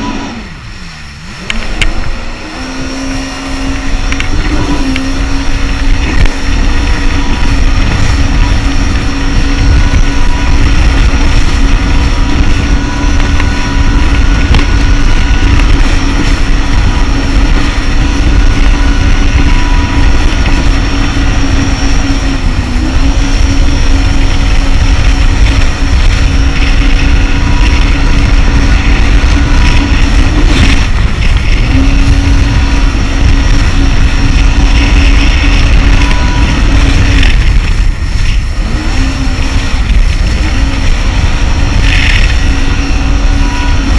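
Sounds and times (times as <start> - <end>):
jet ski engine at high throttle: 0.0 - 43.9
water rushing: 0.0 - 43.9
wind: 0.0 - 43.9.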